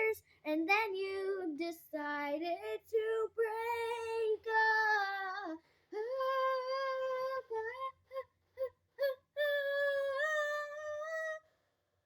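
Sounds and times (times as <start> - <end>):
girl singing solo: 0.0 - 11.4.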